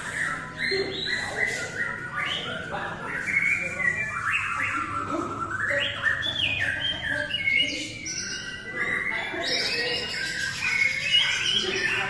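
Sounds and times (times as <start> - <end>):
birds singing whistled phrases: 0.0 - 12.0.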